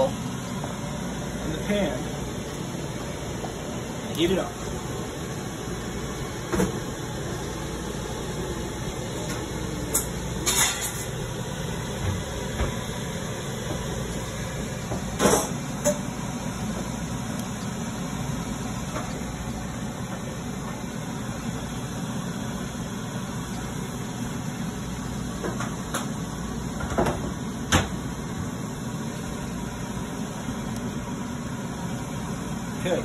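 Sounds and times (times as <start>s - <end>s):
low rumbling kitchen background: 0.0s - 33.0s.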